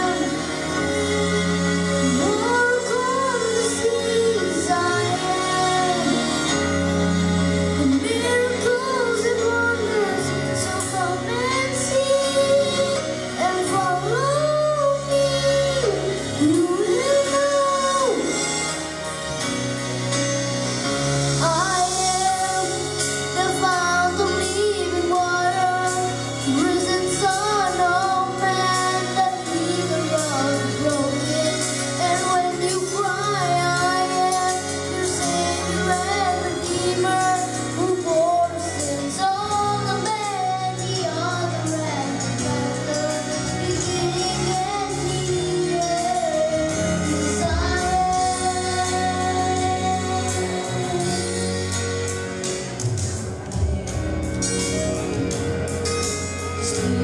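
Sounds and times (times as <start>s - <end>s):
high voice singing: 0.0s - 19.1s, 21.4s - 51.9s
instrumental accompaniment with bass: 0.0s - 57.0s.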